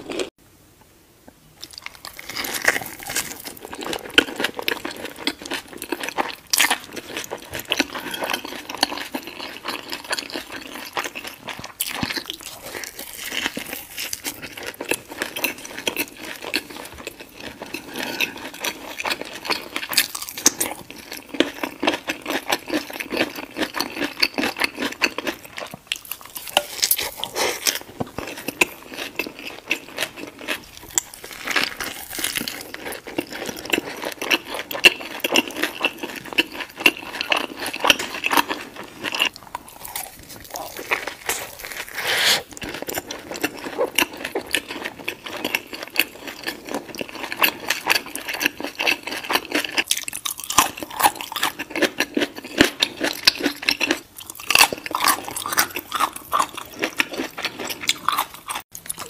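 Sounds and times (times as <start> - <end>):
chewing and biting food: 1.6 - 59.0.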